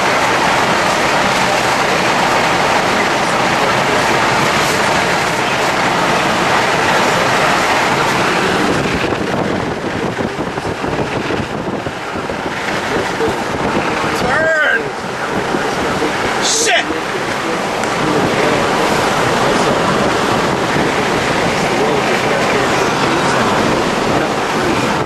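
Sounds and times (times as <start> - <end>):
loud rushing noise: 0.0 - 25.0.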